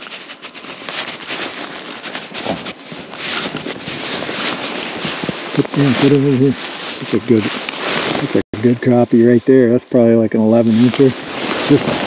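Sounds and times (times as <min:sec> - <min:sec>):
jacket rustling: 0:00.0 - 0:09.4, 0:10.4 - 0:12.0.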